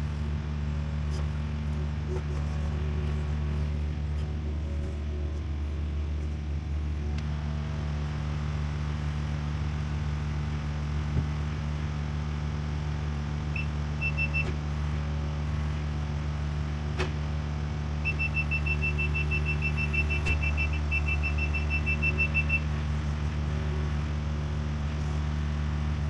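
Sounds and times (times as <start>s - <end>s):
excavator diesel engine droning: 0.0s - 26.0s.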